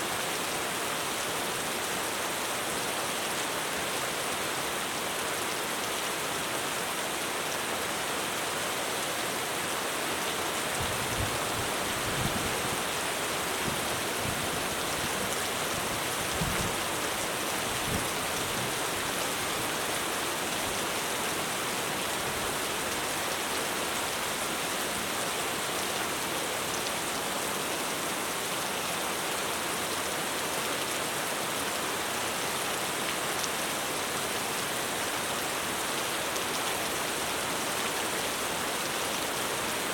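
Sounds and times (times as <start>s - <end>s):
heavy rain drumming on a roof: 0.0s - 39.9s.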